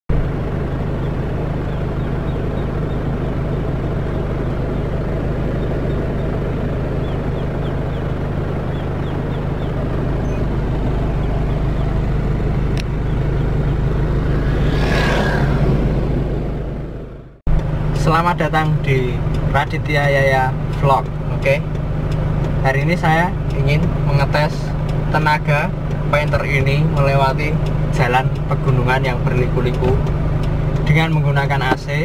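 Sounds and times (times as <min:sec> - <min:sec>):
car engine running: 0:00.1 - 0:32.0.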